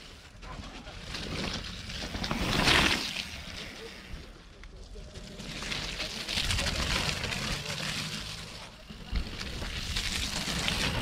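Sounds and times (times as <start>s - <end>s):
bike tyres hissing through mud: 1.1s - 4.3s, 5.2s - 11.0s.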